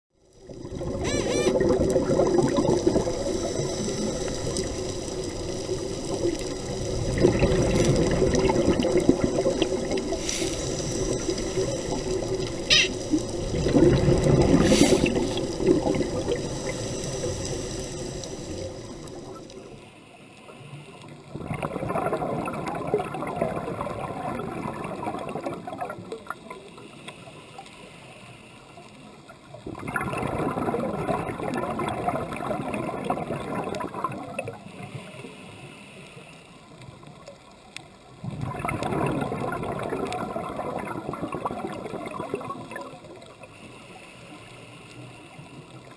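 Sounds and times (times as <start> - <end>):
underwater bubbling: 0.2 - 45.9.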